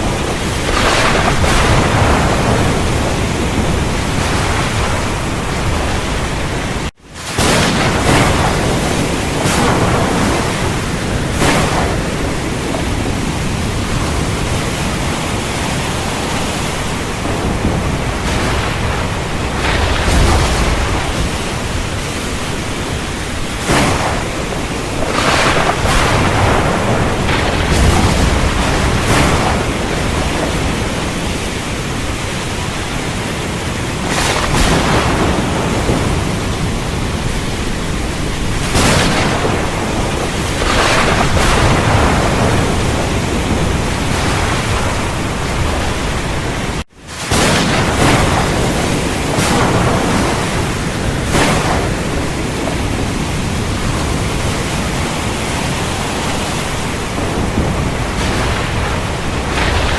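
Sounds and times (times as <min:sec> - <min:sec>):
heavy rain hissing: 0:00.0 - 0:59.9
loud crackles: 0:00.0 - 0:59.9
thunder rumbling: 0:00.0 - 0:59.9.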